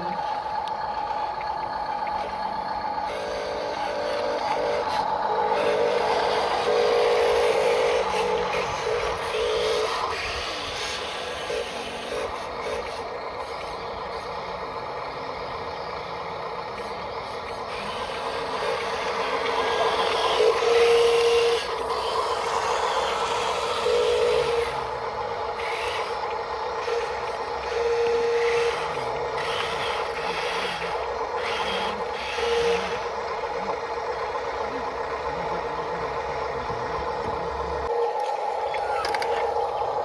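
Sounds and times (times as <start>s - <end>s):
mechanical hum: 0.0s - 40.0s
small electric motors whining: 0.0s - 40.0s.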